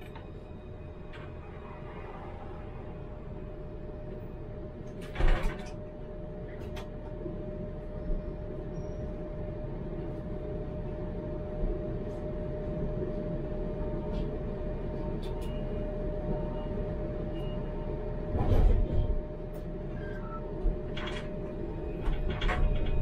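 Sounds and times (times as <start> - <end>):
tram hum and rumble: 0.0 - 23.0.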